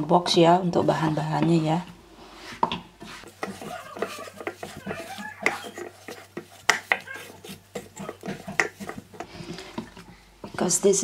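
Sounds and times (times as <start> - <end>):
hands kneading dough: 0.7 - 11.0.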